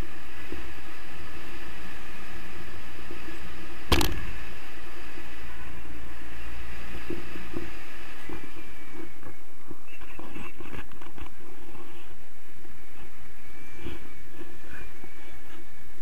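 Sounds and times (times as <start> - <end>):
airflow buffeting microphone: 0.0 - 16.0.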